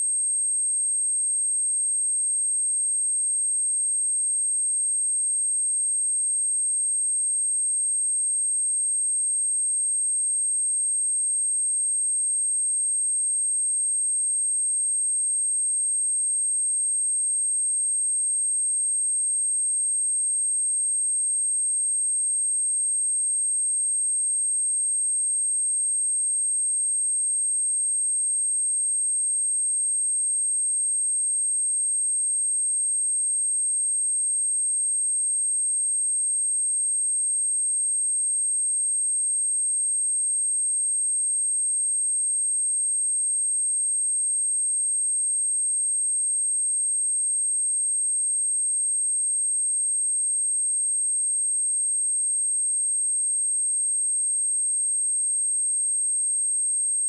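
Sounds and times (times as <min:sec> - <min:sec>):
high-pitched sine wave test tone: 0:00.0 - 0:57.0.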